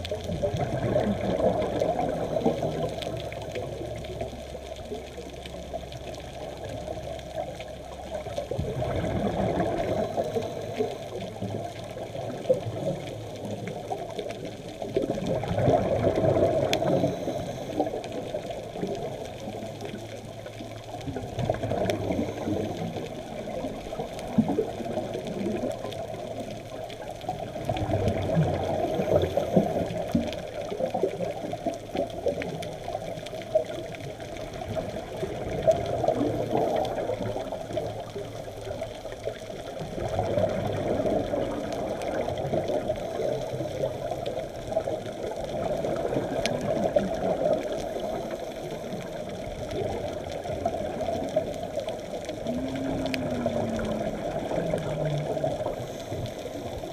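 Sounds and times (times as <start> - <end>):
diver exhaling bubbles underwater: 0.0 - 5.1, 6.4 - 56.9
underwater wash: 0.0 - 56.9.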